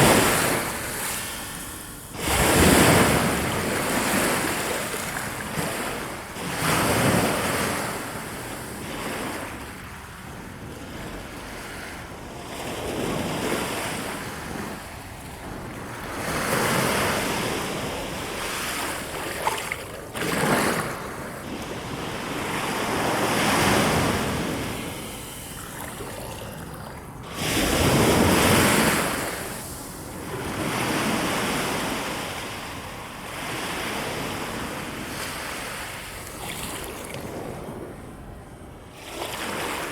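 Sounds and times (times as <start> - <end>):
wind and surf rushing: 0.0 - 10.0, 10.9 - 38.8.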